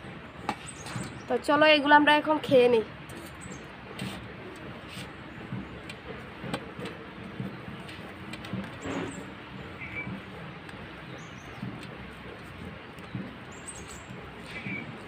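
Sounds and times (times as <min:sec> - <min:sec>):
hands mixing food on steel plates: 0:00.0 - 0:15.0.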